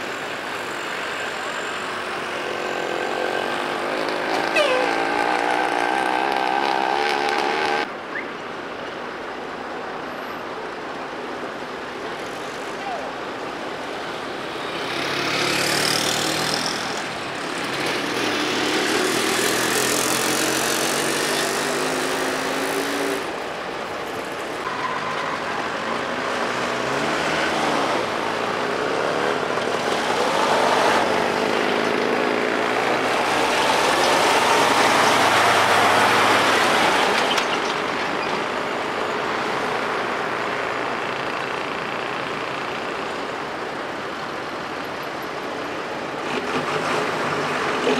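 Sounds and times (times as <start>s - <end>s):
trucks driving past: 0.0s - 47.9s.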